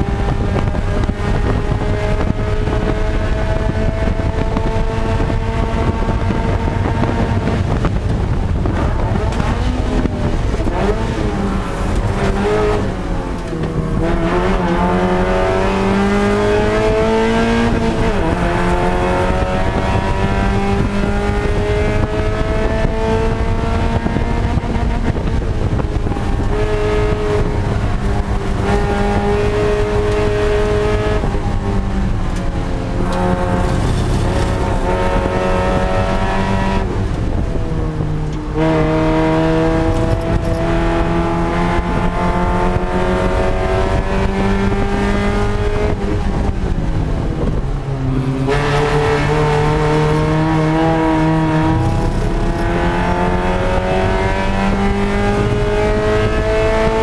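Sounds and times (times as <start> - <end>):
race car engine accelerating: 0.0 - 57.0
wind and road noise: 0.0 - 57.0.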